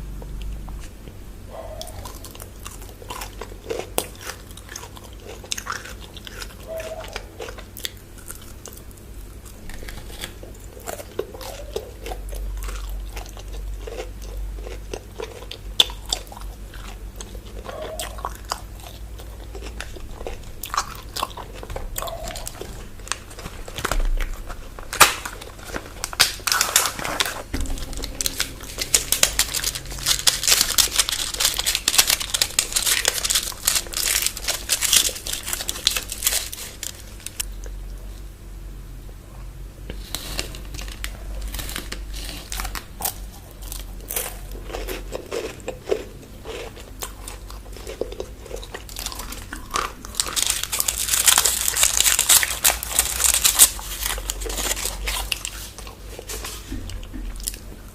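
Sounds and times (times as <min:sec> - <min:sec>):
chewing and crunching chocolate: 0:00.2 - 0:38.3, 0:39.8 - 0:57.9.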